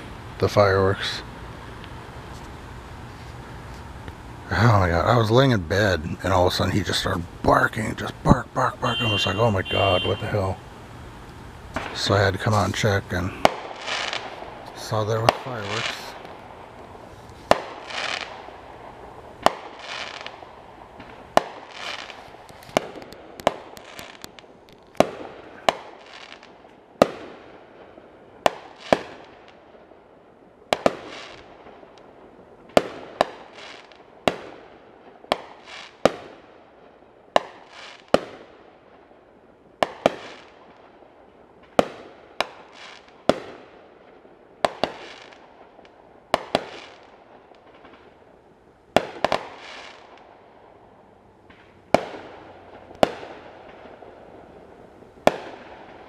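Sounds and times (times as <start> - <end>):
fireworks bangs echoing: 4.5 - 10.9, 11.6 - 56.0.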